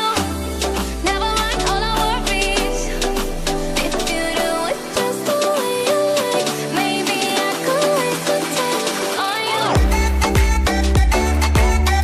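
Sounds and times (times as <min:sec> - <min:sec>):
pop song with plucked guitar: 0:00.0 - 0:12.0.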